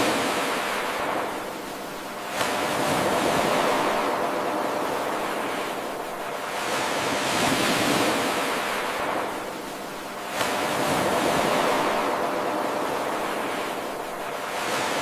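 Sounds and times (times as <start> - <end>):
ocean waves on shore: 0.0 - 15.0.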